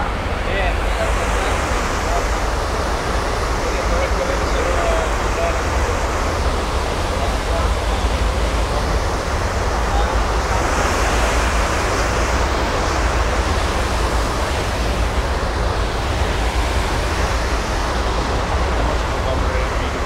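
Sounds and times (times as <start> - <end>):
propeller wash rushing: 0.0 - 20.0
wind buffeting microphone: 0.0 - 20.0.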